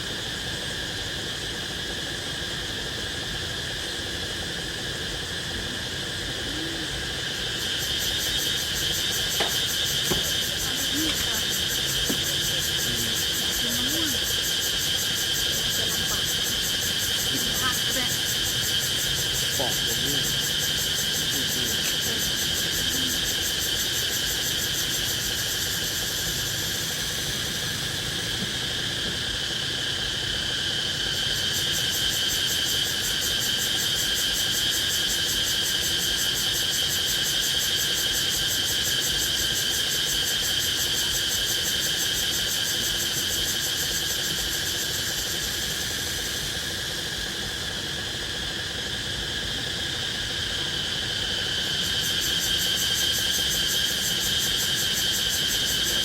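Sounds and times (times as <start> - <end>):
fast pulsing insect trill: 0.0 - 56.0
insects droning: 0.0 - 56.0.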